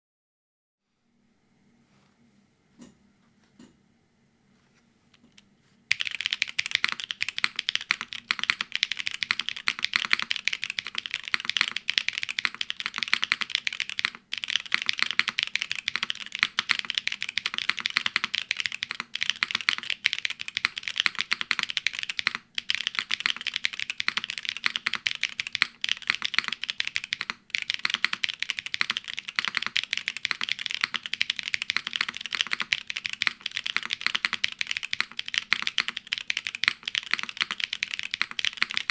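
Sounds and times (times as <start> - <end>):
typing on mechanical keyboard: 5.2 - 38.9.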